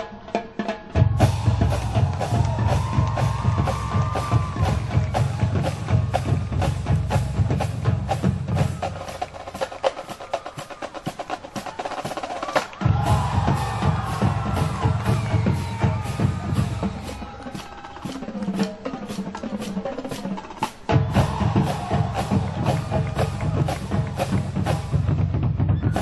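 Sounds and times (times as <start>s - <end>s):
bass drums: 1.0s - 9.6s, 12.8s - 20.2s, 20.9s - 26.0s.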